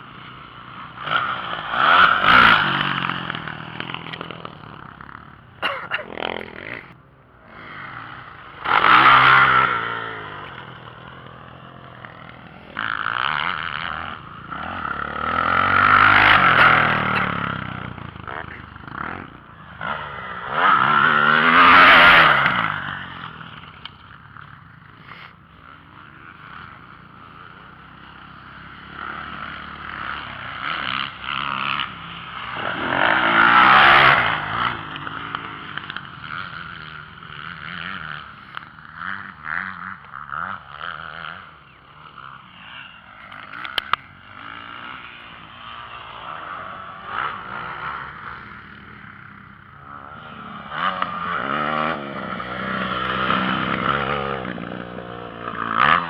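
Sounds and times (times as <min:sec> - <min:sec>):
motocross bike engines revving: 0:00.0 - 0:56.0
motorbikes passing close: 0:00.0 - 0:56.0.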